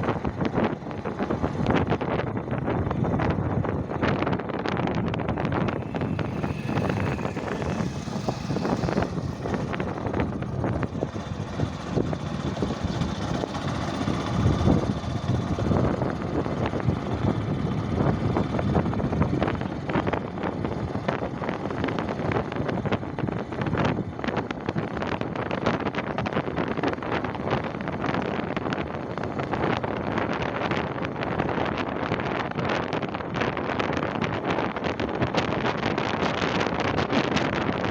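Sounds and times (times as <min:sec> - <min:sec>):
road and vehicle noise: 0:00.0 - 0:37.9
wind buffeting microphone: 0:00.0 - 0:37.9.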